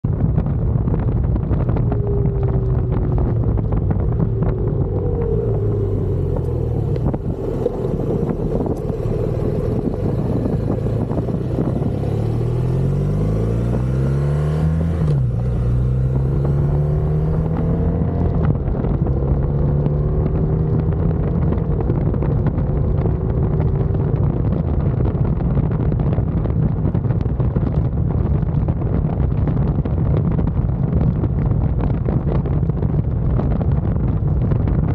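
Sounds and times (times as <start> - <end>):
motorcycle engine running: 0.0 - 34.9
wind on microphone: 0.0 - 34.9.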